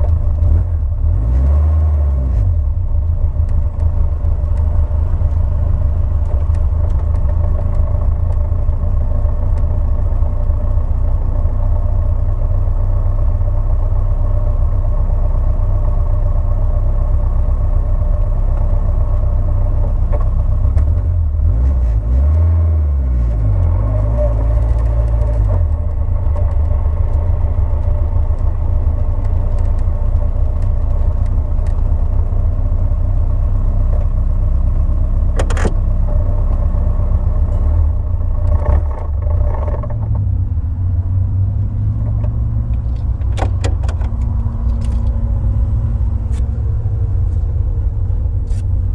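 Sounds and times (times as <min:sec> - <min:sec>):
car engine rumbling: 0:00.0 - 0:48.9.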